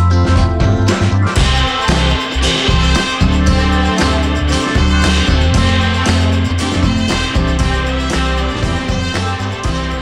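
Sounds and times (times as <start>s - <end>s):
background music with guitar: 0.0s - 10.0s
strong bass line: 0.0s - 10.0s.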